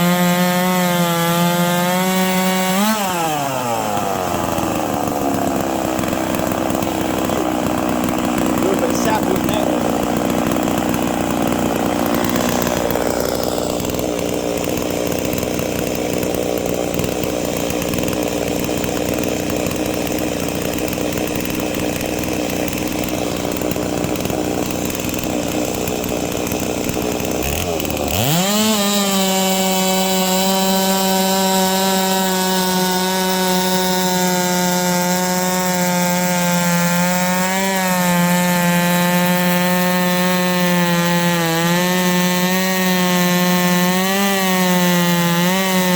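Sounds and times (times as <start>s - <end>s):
chainsaw ripping a log: 0.0s - 45.9s.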